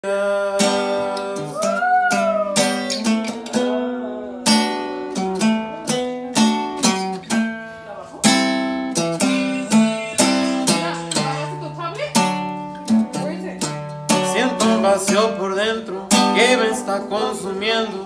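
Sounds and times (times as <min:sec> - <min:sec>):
acoustic guitar strumming and picking: 0:00.0 - 0:18.0.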